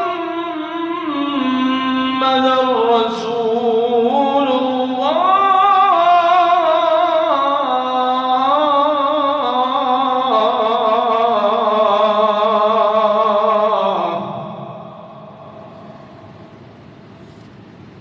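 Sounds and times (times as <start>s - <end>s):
man chanting call to prayer: 0.0s - 15.6s.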